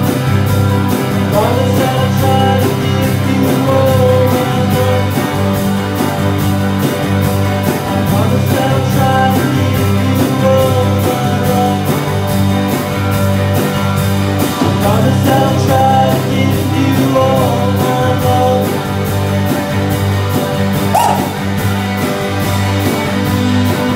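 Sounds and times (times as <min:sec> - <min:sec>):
drum kit: 0:00.0 - 0:23.9
electric bass: 0:00.0 - 0:23.9
electric guitar: 0:00.0 - 0:23.9.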